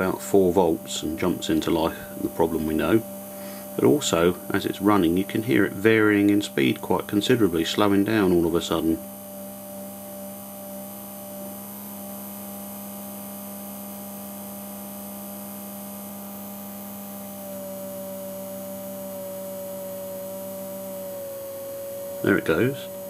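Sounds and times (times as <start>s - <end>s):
electric motor humming and whining: 0.0s - 23.0s.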